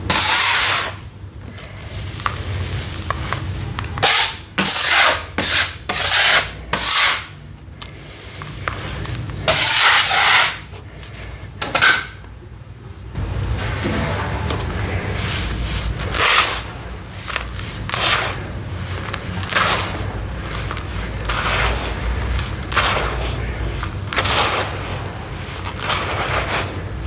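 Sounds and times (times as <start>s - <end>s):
sawdust and sand crumbling in water: 0.0s - 11.4s, 13.4s - 27.0s.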